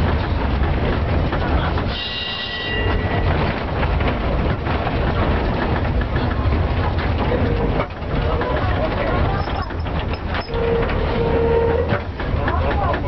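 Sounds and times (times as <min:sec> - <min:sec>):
tram rumbling and rattling on rails: 0:00.0 - 0:13.0.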